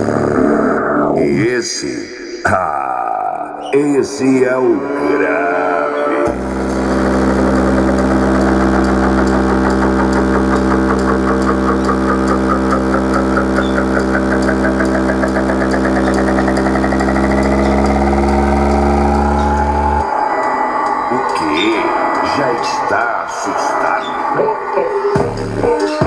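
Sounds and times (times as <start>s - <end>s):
steady low bass tone from speaker: 0.0s - 20.1s, 21.1s - 26.0s.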